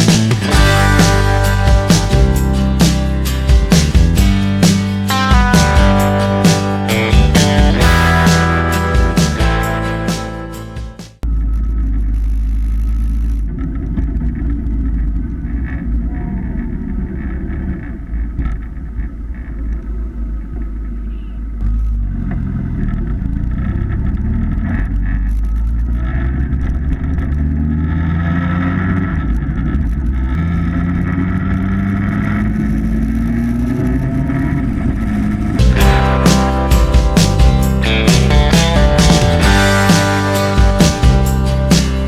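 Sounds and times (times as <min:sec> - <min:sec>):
motorcycle engine rumbling: 0:00.0 - 0:42.0.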